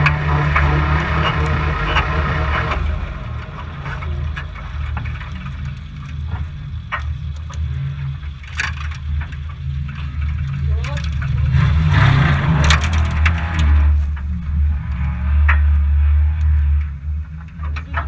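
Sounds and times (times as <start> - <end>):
crunching and clattering: 0.0 - 18.0
race car engine running: 0.0 - 18.0.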